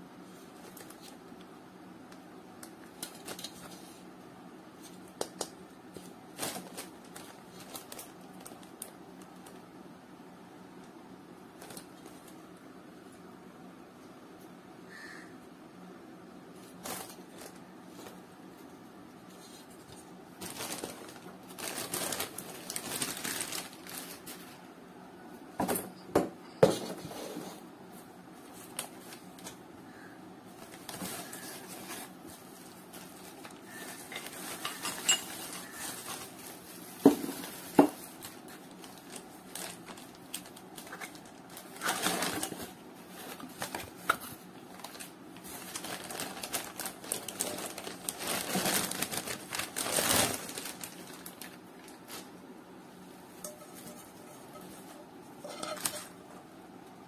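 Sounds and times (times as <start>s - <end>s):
plastic wrapping and foam rustling: 0.1s - 9.8s, 11.4s - 13.1s, 16.5s - 24.8s, 26.7s - 57.0s.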